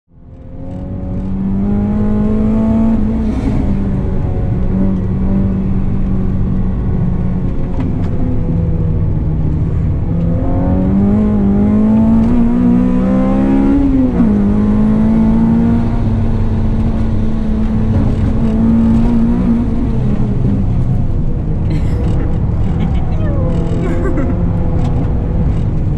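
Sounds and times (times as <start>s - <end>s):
car engine accelerating: 0.1s - 25.9s.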